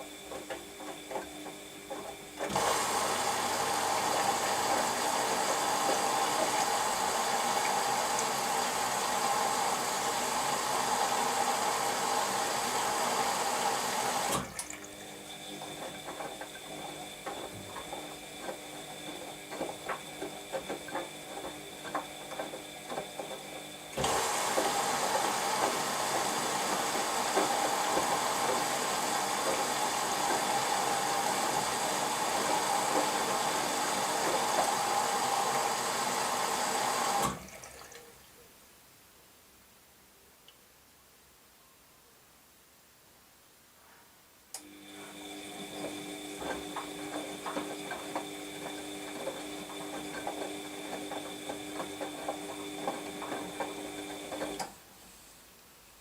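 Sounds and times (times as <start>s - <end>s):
washing machine filling with water: 0.0s - 38.1s, 44.6s - 54.8s.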